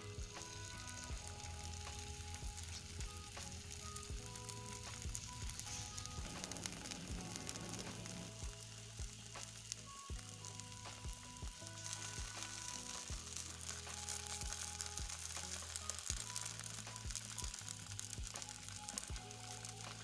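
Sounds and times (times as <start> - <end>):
batter sizzling in oil: 0.0 - 20.0.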